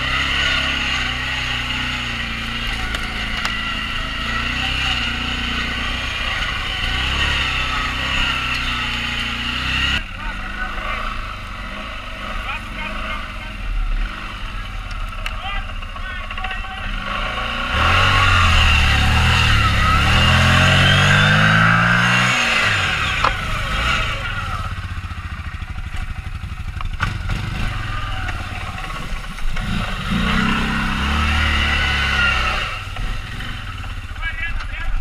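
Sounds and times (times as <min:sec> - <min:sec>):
quad bike engine revving: 0:00.0 - 0:35.0.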